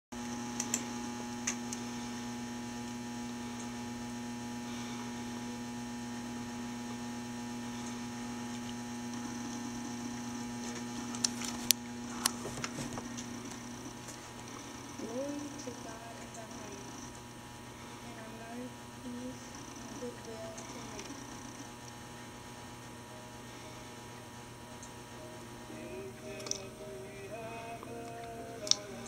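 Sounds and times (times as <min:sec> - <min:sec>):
electrical mains hum: 0:00.2 - 0:29.0.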